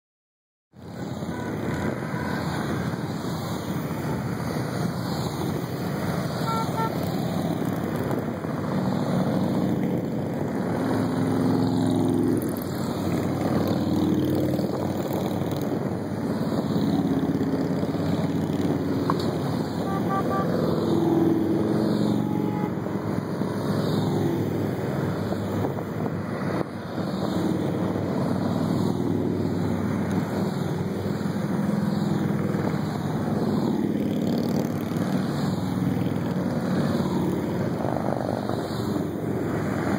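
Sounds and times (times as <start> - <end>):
motorcycles riding past: 0.8 - 39.9.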